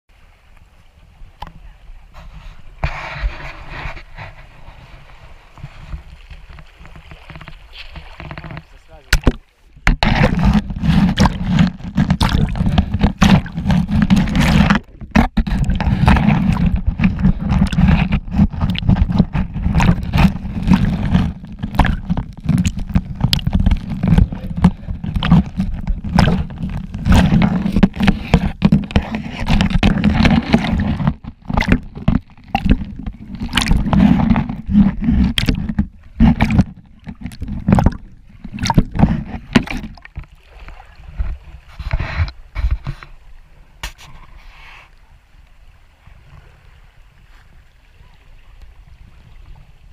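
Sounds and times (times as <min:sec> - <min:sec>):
muffled water sloshing: 0:00.1 - 0:49.9.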